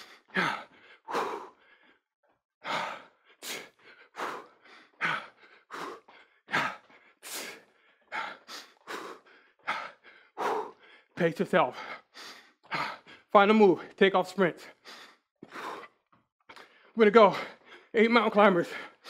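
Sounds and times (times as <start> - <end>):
man breathing hard: 0.0 - 14.0, 14.6 - 19.0.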